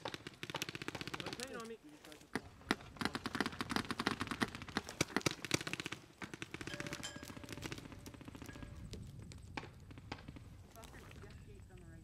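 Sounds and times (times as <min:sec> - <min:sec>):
paintball markers firing: 0:00.0 - 0:11.4.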